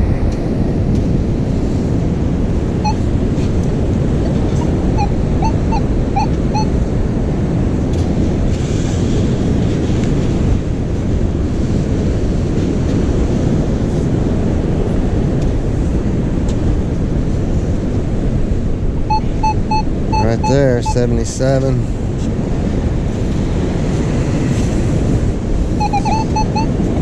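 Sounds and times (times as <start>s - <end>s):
surf rushing: 0.0s - 27.0s
wind buffeting microphone: 0.0s - 27.0s.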